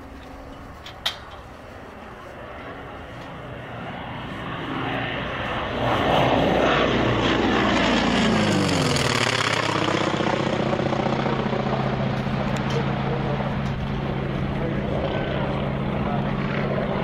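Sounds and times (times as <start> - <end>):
propeller plane passing overhead: 0.0 - 17.0.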